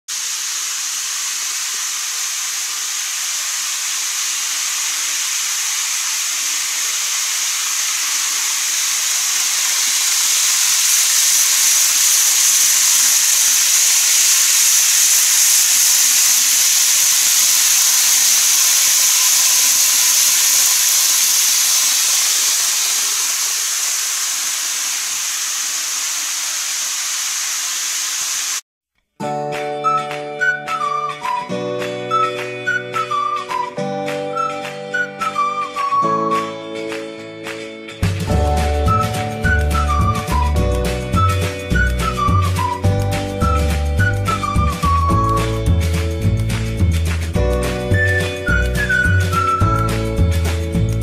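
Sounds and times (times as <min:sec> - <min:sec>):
model train motor and wheels hissing: 0:00.0 - 0:28.6, 0:38.3 - 0:51.0.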